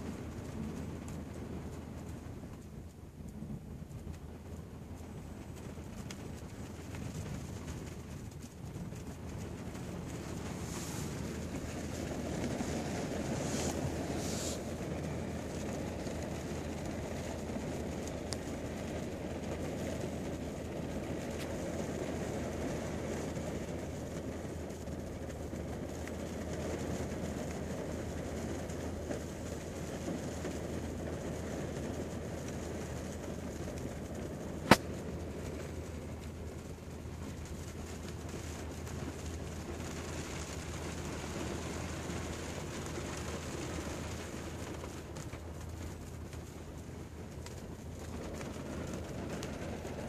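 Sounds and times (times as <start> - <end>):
rain on car roof: 0.0 - 50.0.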